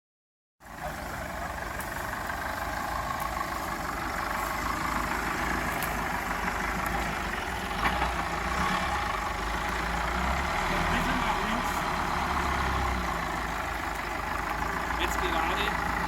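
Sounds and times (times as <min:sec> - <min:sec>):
engine running at low revs: 0:00.6 - 0:16.0.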